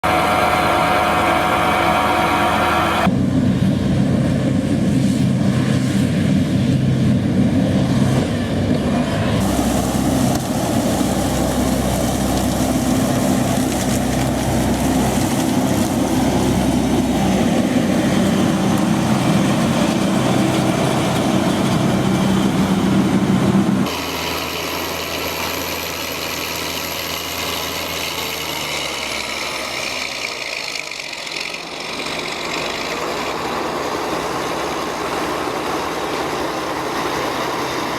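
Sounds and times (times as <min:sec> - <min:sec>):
heavy machinery engine running: 0:00.0 - 0:37.9.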